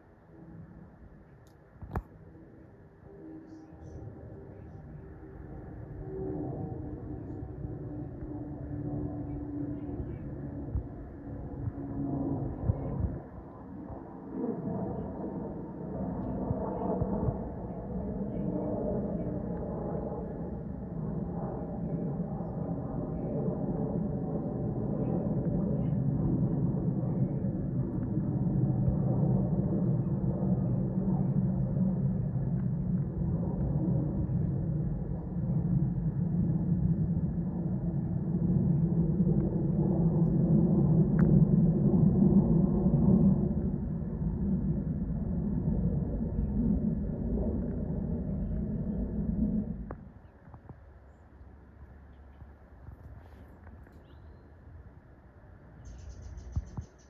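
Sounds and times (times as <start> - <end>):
aircraft engines rumbling: 0.0 - 57.0.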